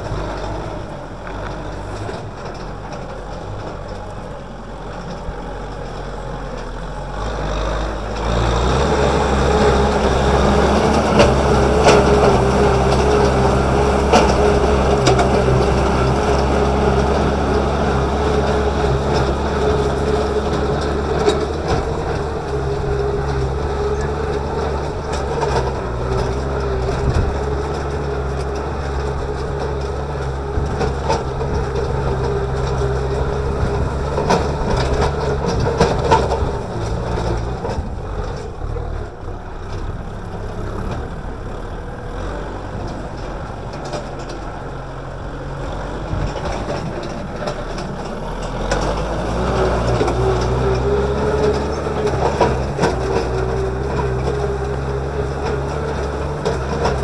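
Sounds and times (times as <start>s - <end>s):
plow discs crunching soil: 0.0s - 57.0s
tractor diesel engine under load: 0.0s - 57.0s.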